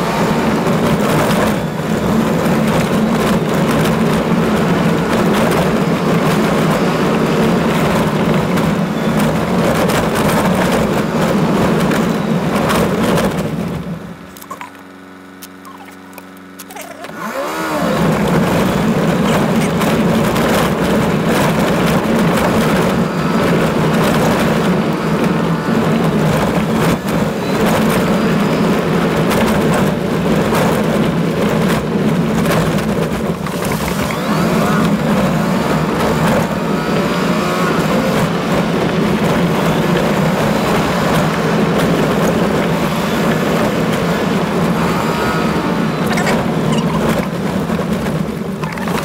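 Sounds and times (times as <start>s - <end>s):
engine and tyres droning: 0.0s - 49.0s.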